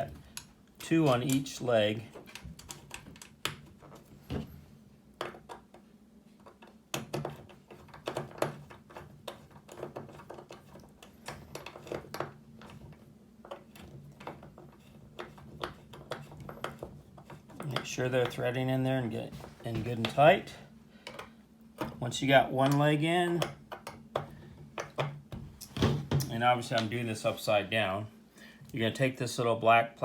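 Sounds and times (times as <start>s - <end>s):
faint steady low hum: 0.0s - 30.0s.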